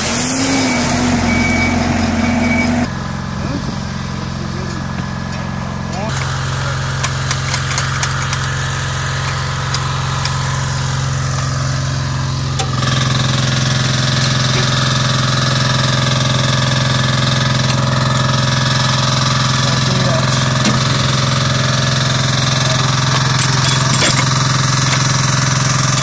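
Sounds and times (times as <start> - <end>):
engine running with low hum: 0.0 - 26.0.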